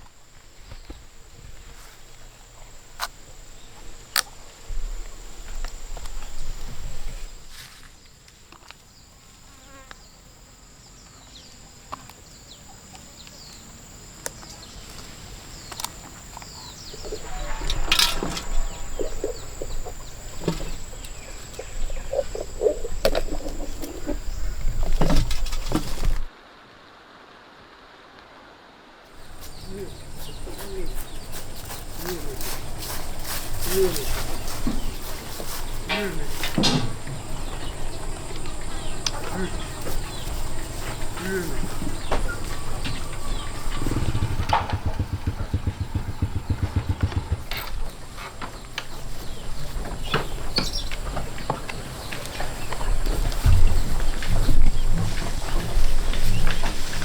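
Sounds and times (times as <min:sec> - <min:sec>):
insects droning: 0:00.0 - 0:26.3, 0:29.1 - 0:57.0.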